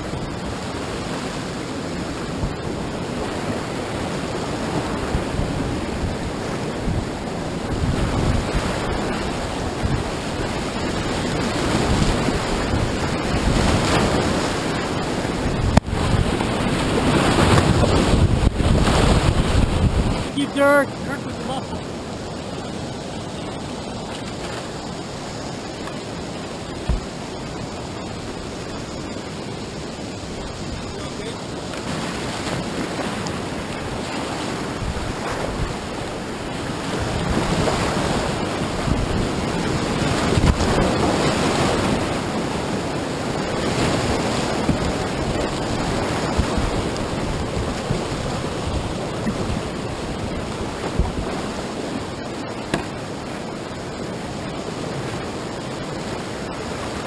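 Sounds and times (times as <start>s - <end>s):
whitewater rushing: 0.0s - 57.0s
wind buffeting microphone: 0.0s - 57.0s.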